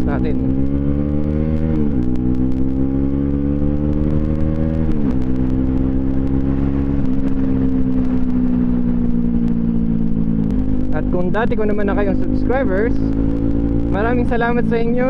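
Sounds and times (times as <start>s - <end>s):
motorcycle engine shifting gears: 0.0s - 15.0s.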